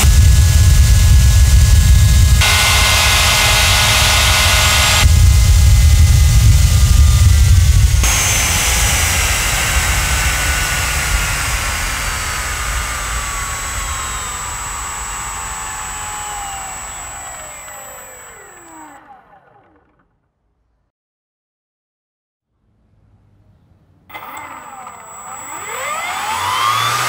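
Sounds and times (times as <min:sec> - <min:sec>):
electric fan spinning down: 0:00.0 - 0:20.3, 0:24.1 - 0:27.0.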